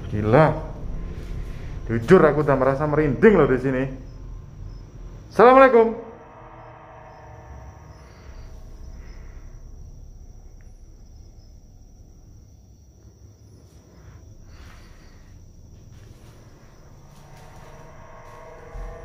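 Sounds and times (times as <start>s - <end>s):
low handling rumble: 0.0s - 19.0s
night insects chirring: 0.0s - 19.0s.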